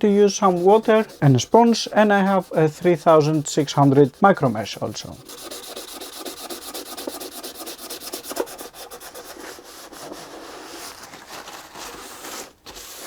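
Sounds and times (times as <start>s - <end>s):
abrasive pad scratching wood: 0.0s - 10.9s.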